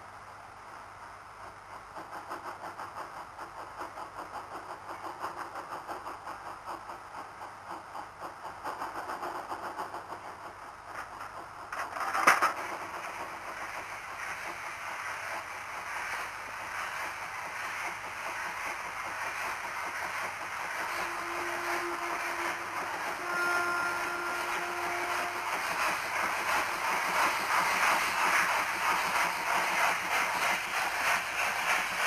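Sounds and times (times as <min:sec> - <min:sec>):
steady steam hiss: 0:00.0 - 0:32.0
steam locomotive pulsing steam: 0:00.0 - 0:32.0.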